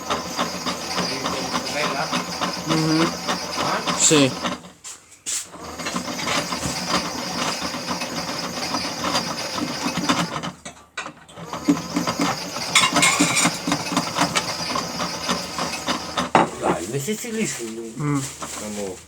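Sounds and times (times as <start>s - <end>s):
toy washing machine rattling: 0.0s - 4.8s, 5.5s - 19.0s.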